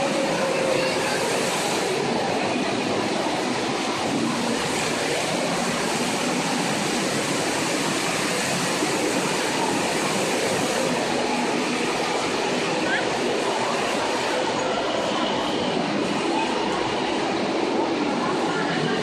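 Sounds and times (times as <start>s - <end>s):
fountain water splashing: 0.0s - 19.0s.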